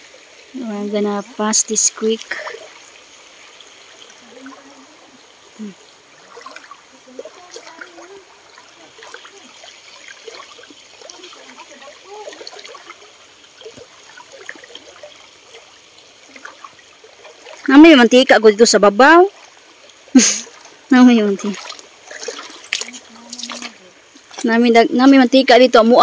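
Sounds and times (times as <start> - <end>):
creek trickling over stones: 0.0 - 26.0.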